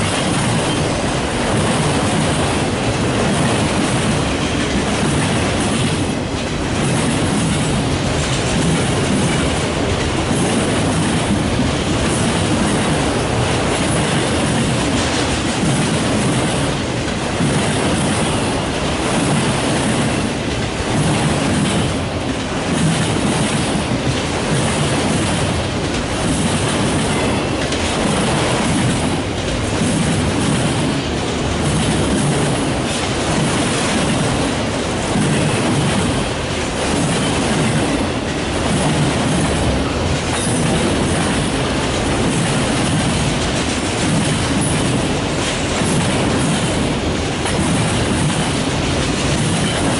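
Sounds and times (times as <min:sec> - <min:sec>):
steel wheels rumbling on rails: 0:00.0 - 0:49.9
wheels clicking over rail joints: 0:00.0 - 0:49.9.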